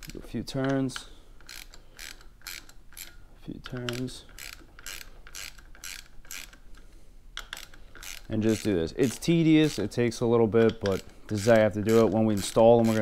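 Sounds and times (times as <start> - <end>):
socket ratchet clicking: 0.0 - 6.8, 7.4 - 10.0, 10.6 - 13.0.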